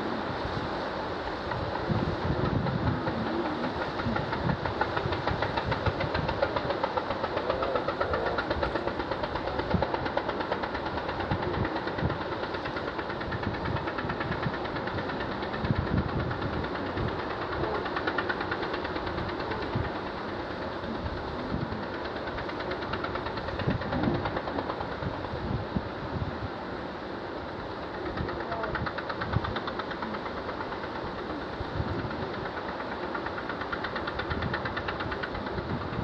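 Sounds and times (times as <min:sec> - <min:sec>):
boat engine pulsing: 0:00.0 - 0:36.0.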